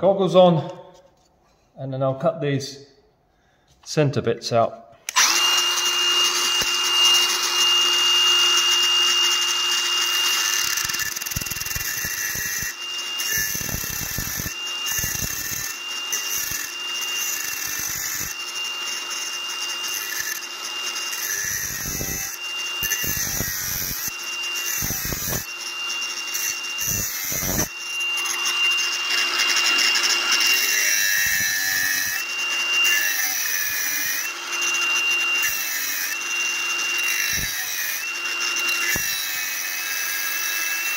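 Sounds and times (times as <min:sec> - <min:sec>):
angle grinder whine: 0:05.1 - 0:40.9
grinding disc rasping metal: 0:05.1 - 0:40.9.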